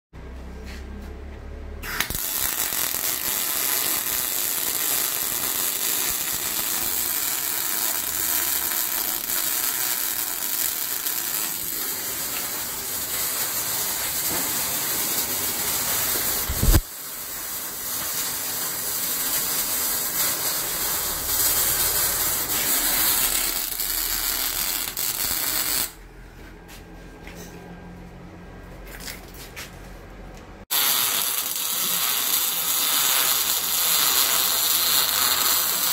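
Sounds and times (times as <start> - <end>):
welding arc crackling and hissing: 1.8 - 26.0, 30.6 - 35.9.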